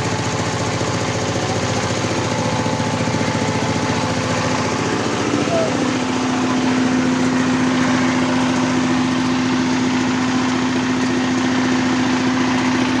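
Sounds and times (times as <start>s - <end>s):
corn sheller machine running: 0.0s - 13.0s.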